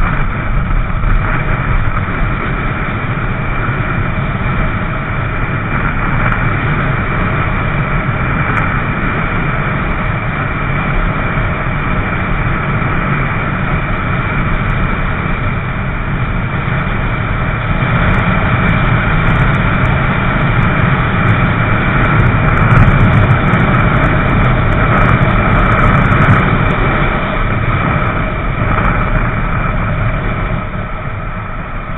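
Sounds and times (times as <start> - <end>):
motorcycle engine drone: 0.0 - 31.9
wind rumble on microphone: 0.0 - 31.9.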